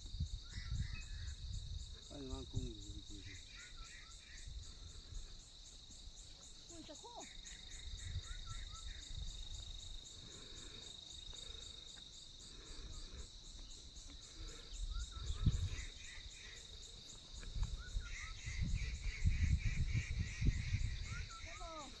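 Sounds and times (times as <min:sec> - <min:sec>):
high-pitched insect trill: 0:00.0 - 0:22.0
insects chirping rapidly: 0:00.0 - 0:22.0
lower insect chirping chorus: 0:00.0 - 0:22.0.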